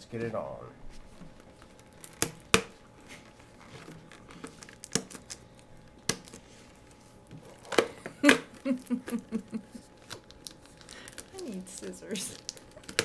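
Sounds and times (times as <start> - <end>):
plastic wrap crinkling: 0.9 - 13.0.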